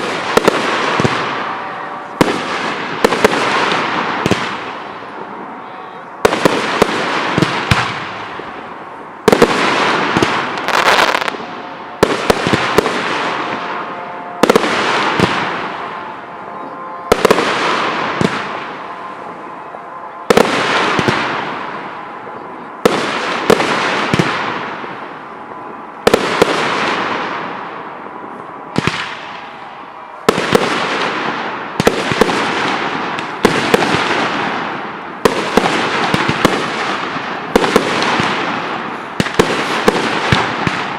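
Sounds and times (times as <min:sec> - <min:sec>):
fireworks bursting with sharp bangs: 0:00.0 - 0:40.9.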